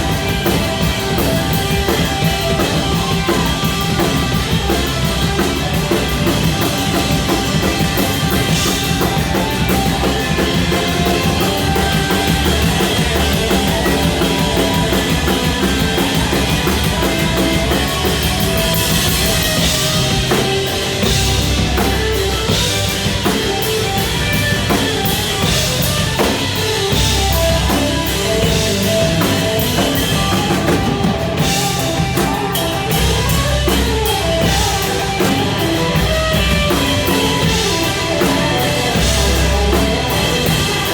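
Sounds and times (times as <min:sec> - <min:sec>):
bass: 0:00.0 - 0:40.9
drum kit: 0:00.0 - 0:40.9
electric guitar: 0:00.0 - 0:40.9.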